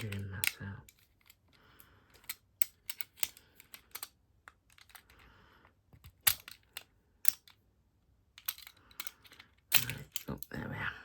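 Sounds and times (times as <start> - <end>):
lock parts clicking and clacking: 0.0 - 5.3, 5.9 - 7.6, 8.4 - 10.6.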